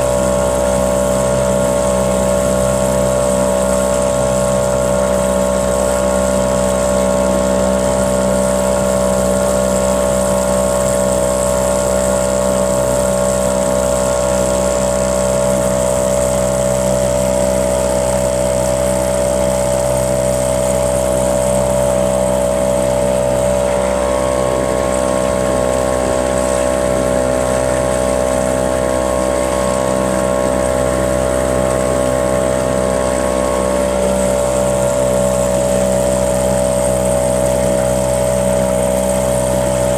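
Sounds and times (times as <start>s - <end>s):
boat motor droning: 0.0s - 39.9s.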